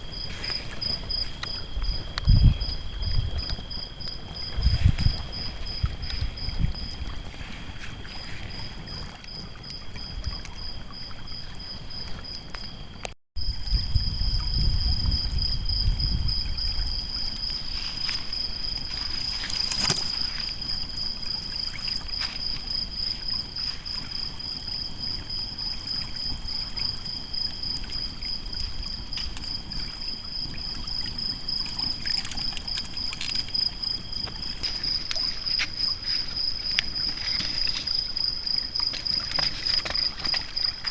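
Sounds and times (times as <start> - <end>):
campfire crackles: 0.0 - 40.9
insects trilling: 0.0 - 40.9
lower insect trill: 0.0 - 40.9.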